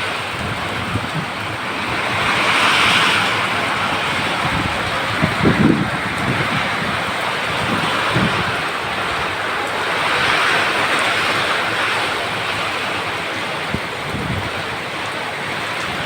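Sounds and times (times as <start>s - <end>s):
heavy rain pouring: 0.0s - 16.0s
wind rumbling on microphone: 0.0s - 16.0s.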